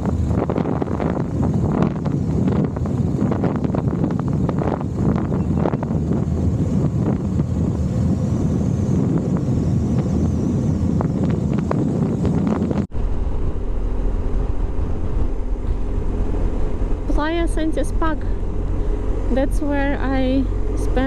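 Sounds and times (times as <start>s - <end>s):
motorcycle engine and road rumble: 0.0s - 21.0s
wind buffeting microphone: 0.0s - 21.0s.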